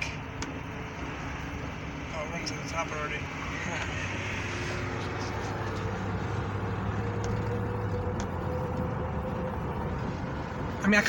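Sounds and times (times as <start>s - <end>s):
low engine hum: 0.0s - 11.0s
road noise: 0.0s - 11.0s.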